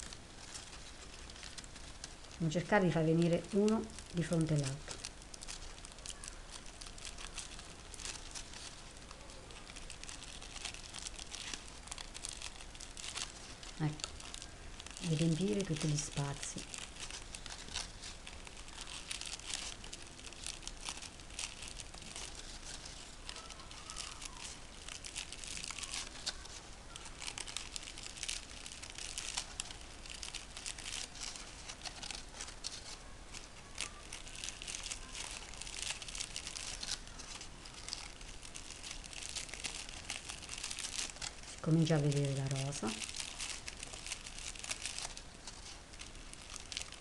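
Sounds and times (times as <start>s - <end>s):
crepe paper crinkling: 0.0s - 47.0s.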